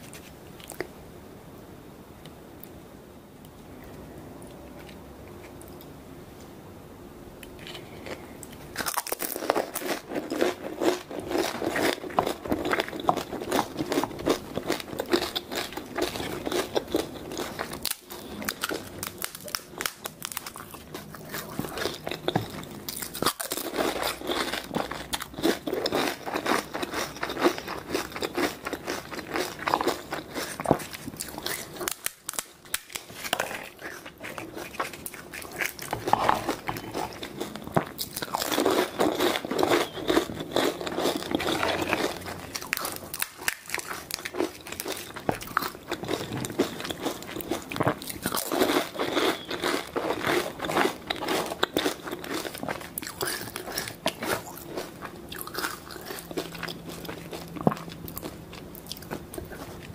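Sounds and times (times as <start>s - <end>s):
crisp shells crunching while eating: 7.6s - 59.9s
wet chewing: 8.8s - 59.9s.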